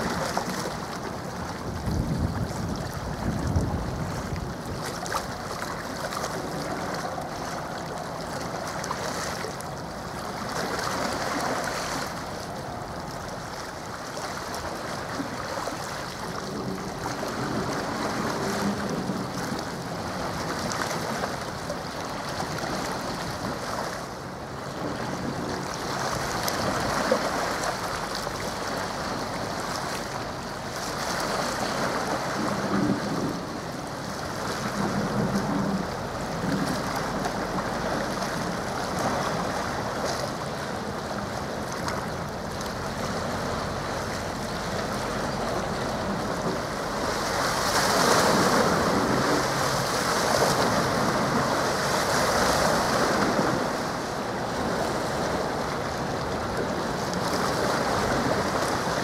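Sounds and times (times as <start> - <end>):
wind on microphone: 0.0 - 9.4, 14.6 - 59.0
waves washing against shore: 0.0 - 59.0.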